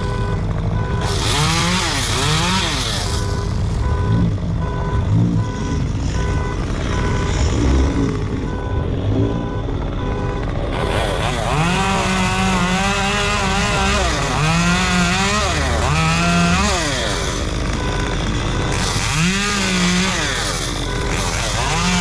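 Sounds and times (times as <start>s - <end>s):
chainsaw engine revving: 0.0s - 22.0s
reversing beeper: 0.0s - 22.0s.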